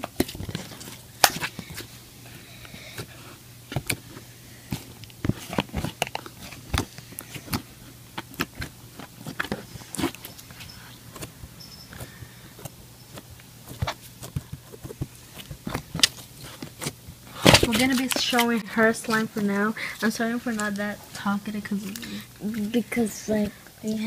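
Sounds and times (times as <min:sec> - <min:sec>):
slime squelching: 0:00.0 - 0:24.0.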